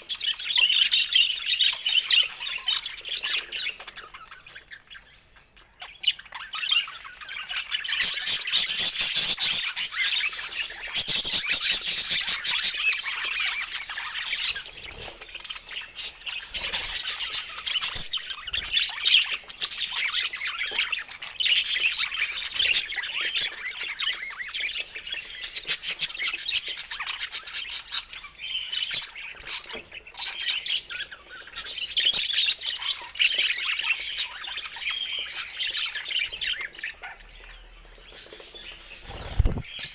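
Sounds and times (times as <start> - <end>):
budgies chattering and warbling: 0.0 - 39.9.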